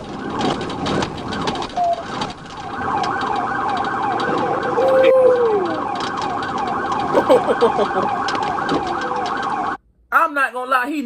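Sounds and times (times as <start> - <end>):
police siren yelping: 0.0 - 9.8.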